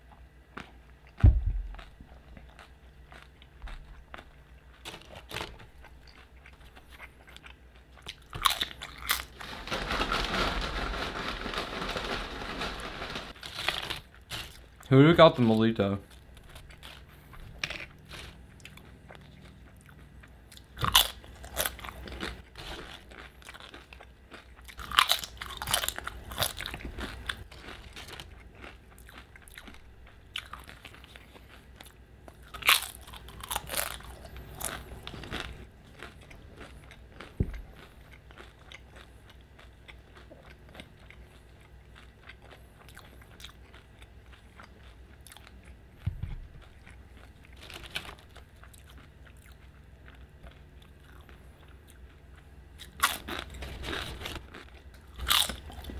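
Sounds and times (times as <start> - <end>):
quiet chewing: 0.0 - 9.4, 16.0 - 55.9
chips crunching: 0.6 - 45.8, 46.6 - 52.1, 52.8 - 55.9.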